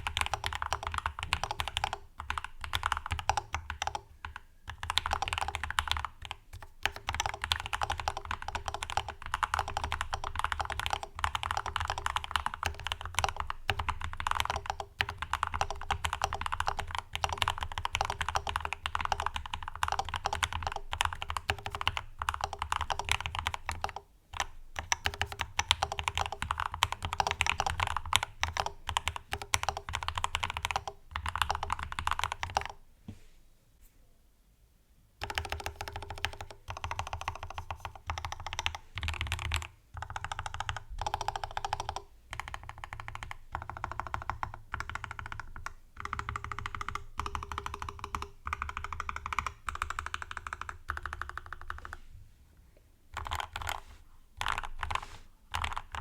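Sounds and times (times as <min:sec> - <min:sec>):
mechanical keyboard typing: 0:00.0 - 0:32.8, 0:35.2 - 0:52.0, 0:53.1 - 0:53.8, 0:54.4 - 0:56.0.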